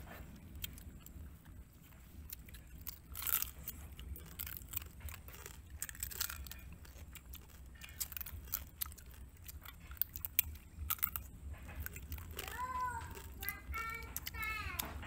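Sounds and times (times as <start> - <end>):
chewing and crunching crab shell: 0.0 - 15.0.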